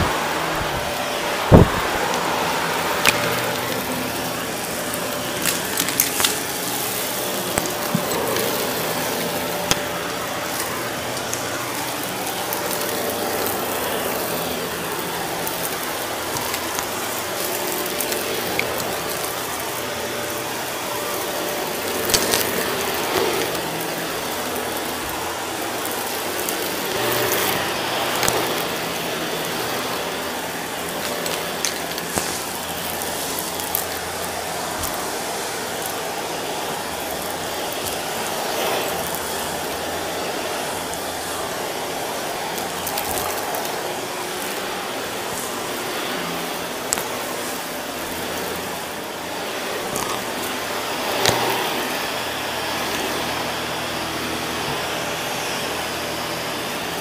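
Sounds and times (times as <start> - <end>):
debris crackling in vacuum: 0.0 - 56.7
vacuum cleaner motor drone: 0.0 - 57.0.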